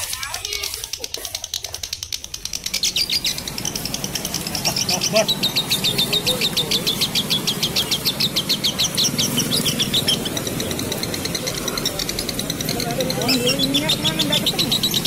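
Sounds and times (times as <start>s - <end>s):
lovebirds chirping shrilly: 0.0s - 15.0s.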